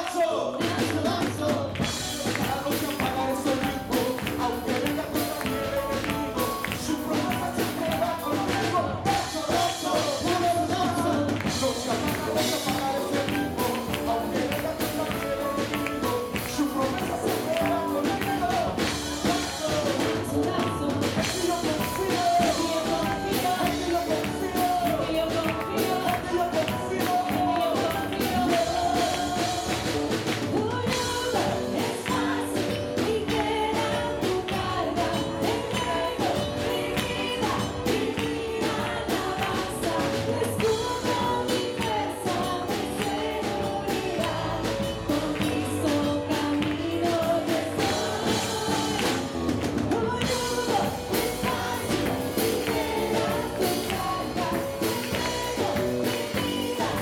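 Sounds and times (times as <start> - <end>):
electric guitar: 0.0 - 57.0
keyboard: 0.0 - 57.0
man singing: 0.0 - 57.0
woman singing: 0.0 - 57.0
steady beat: 1.8 - 57.0.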